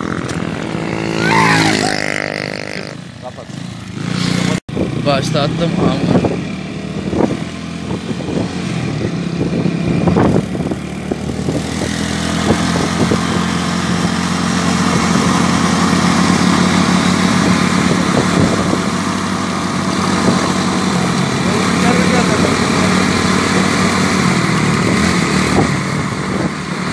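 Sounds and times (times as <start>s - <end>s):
motorcycle engine running: 0.0s - 26.9s
rushing air and road noise: 0.0s - 26.9s.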